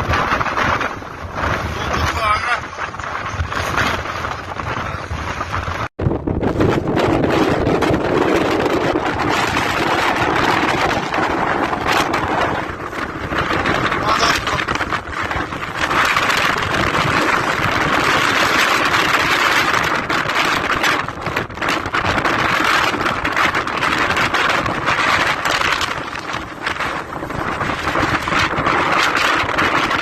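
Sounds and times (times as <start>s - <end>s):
blizzard wind gusting: 0.0s - 30.0s
wind noise on microphone: 0.0s - 30.0s.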